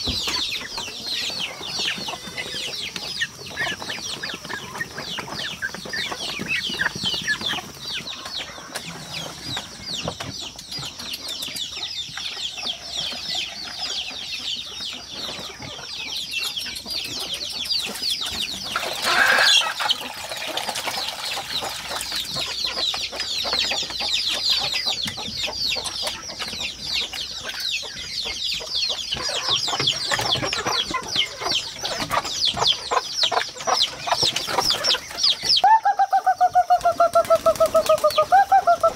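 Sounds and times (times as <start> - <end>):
ducklings peeping: 0.0 - 38.9
hens clucking: 0.0 - 38.9.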